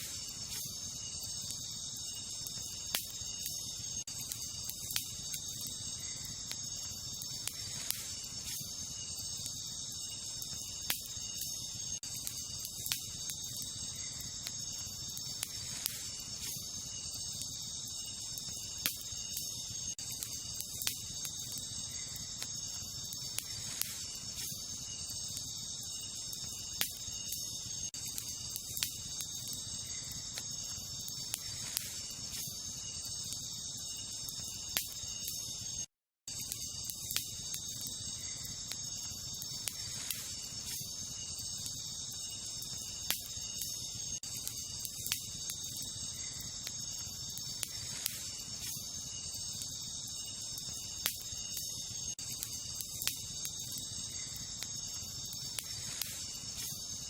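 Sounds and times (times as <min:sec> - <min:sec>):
campfire crackling and popping: 0:00.0 - 0:57.0
night insects trilling: 0:00.0 - 0:57.0.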